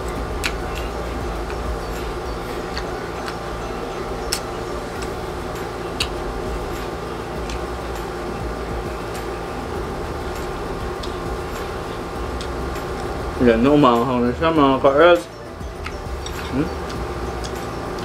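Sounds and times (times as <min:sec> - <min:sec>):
crunchy chewing clicks: 0:00.0 - 0:13.4, 0:15.2 - 0:18.0
air conditioner hum: 0:00.0 - 0:18.0.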